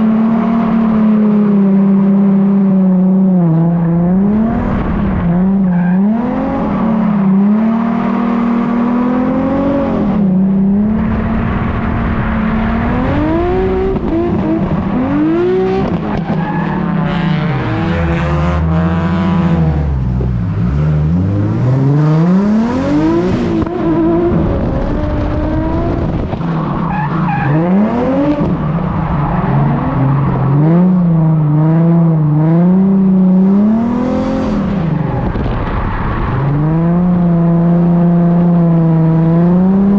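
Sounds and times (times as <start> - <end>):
car engine revving hard: 0.0 - 28.8, 29.6 - 35.4.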